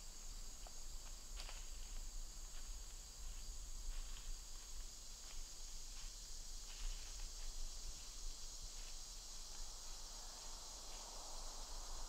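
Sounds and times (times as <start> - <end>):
crickets chirping chorus: 0.0 - 12.0.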